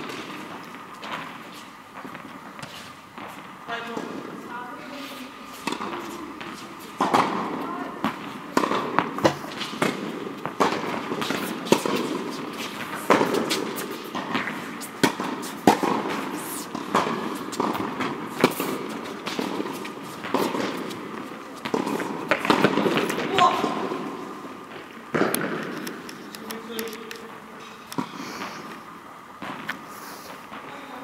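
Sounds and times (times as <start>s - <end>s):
tennis balls struck by rackets: 0.0s - 31.0s.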